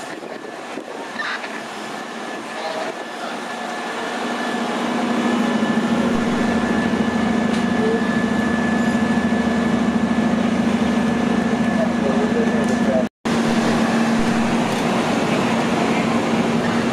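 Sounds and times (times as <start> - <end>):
low engine drone: 0.0 - 16.9
thin steady whine: 0.0 - 16.9.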